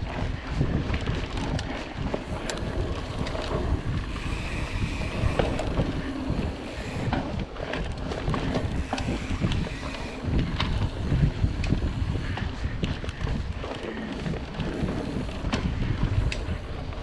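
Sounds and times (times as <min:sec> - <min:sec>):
bike clicks and rattles: 0:00.0 - 0:17.0
tyres rumbling on dirt: 0:00.0 - 0:17.0
wind buffeting microphone: 0:00.0 - 0:17.0.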